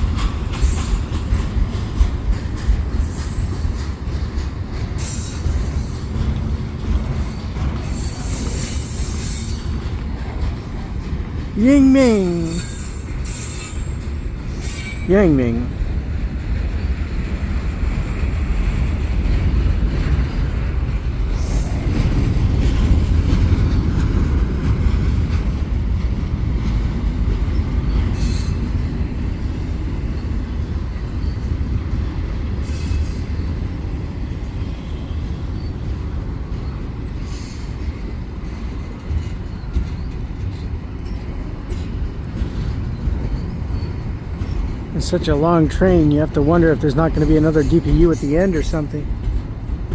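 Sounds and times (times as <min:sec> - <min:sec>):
train cars clanking: 0:00.0 - 0:11.6, 0:15.7 - 0:49.9
train wheels rumbling on rails: 0:00.0 - 0:11.6, 0:12.3 - 0:49.9.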